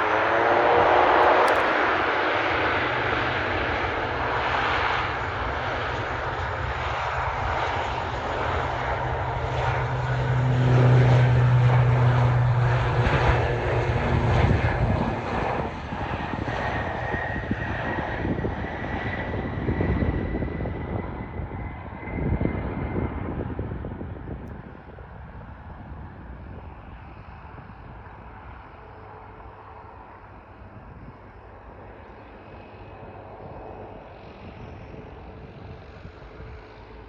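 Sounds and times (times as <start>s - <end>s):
turboprop plane taking off: 0.0s - 37.0s.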